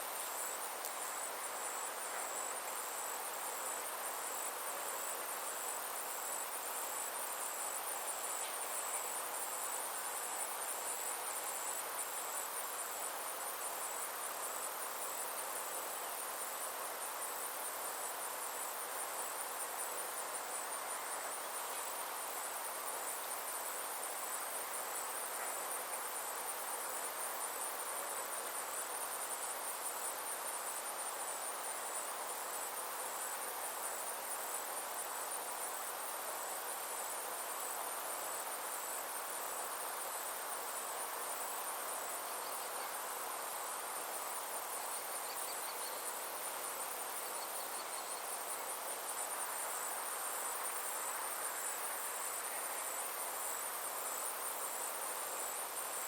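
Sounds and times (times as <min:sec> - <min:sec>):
insects chirring: 0:00.0 - 0:56.0
outdoor background noise: 0:00.0 - 0:56.0.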